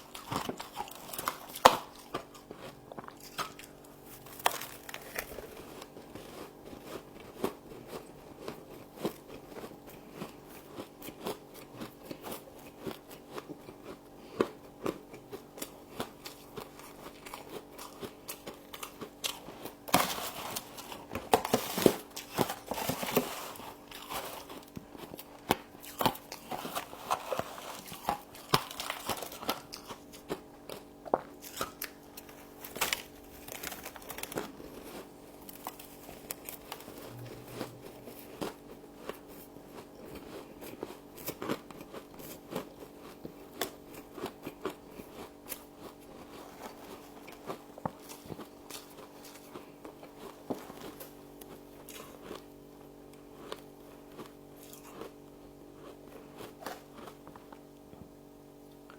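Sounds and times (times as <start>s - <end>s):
frost crunching while chewed: 0.0s - 58.9s.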